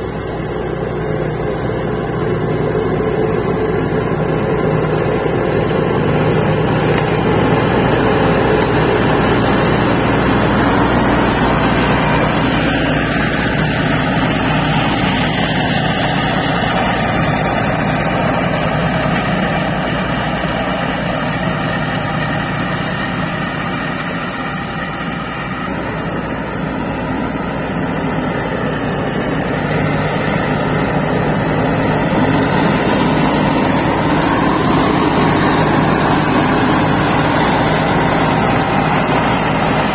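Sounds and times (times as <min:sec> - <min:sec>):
mower deck cutting grass: 0:00.0 - 0:39.9
mower diesel engine running: 0:00.0 - 0:39.9.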